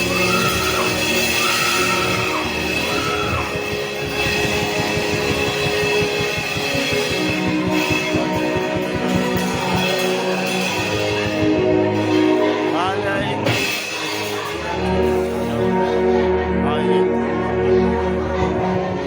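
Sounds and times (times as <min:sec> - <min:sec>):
instrumental music of sustained chords: 0:00.0 - 0:19.0.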